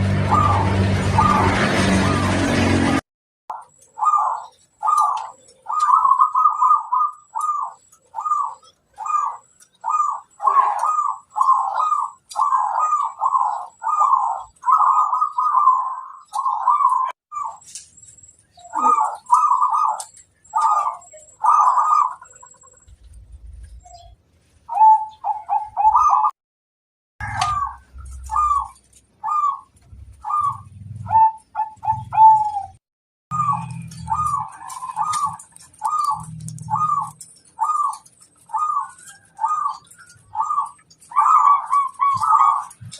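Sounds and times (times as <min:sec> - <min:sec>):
dove cooing: 0:00.1 - 0:02.4, 0:03.5 - 0:17.6, 0:18.6 - 0:24.0, 0:24.7 - 0:26.3, 0:27.2 - 0:42.9.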